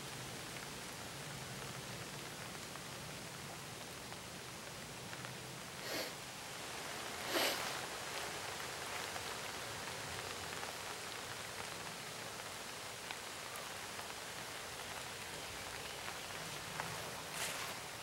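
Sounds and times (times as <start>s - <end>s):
steady rain hiss: 0.0s - 18.0s
raindrop ticks: 1.6s - 5.8s, 6.5s - 18.0s.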